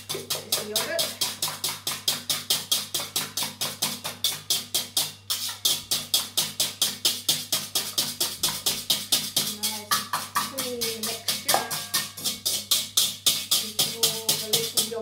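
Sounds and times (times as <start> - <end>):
whisk beating in metal bowl: 0.0 - 15.0.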